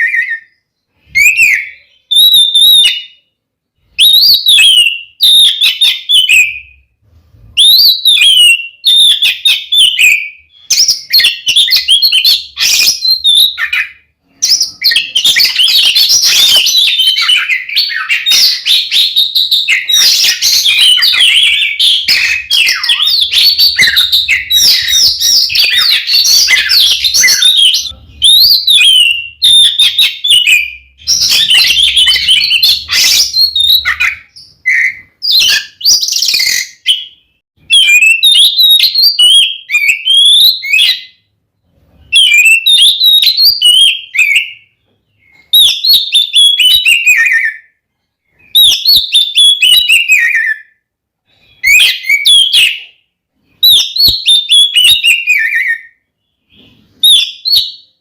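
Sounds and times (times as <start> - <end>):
magpie-robin singing: 0.0 - 41.3, 41.9 - 50.8, 51.4 - 58.0.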